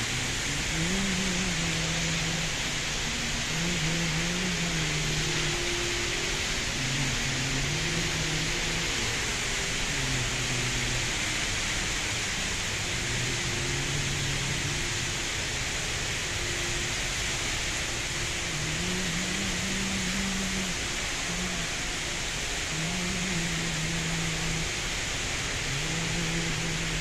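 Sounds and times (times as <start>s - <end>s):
indoor waterfall rushing: 0.0s - 27.0s.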